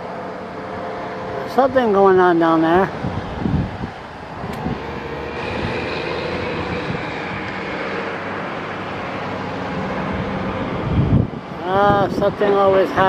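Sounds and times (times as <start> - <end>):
constant noise: 0.0 - 13.0
engine-like drone: 0.0 - 13.0.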